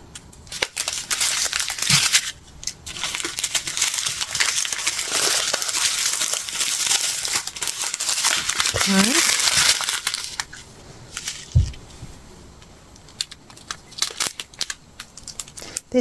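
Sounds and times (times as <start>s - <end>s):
plastic bags crinkling: 0.4s - 11.9s, 13.1s - 16.0s.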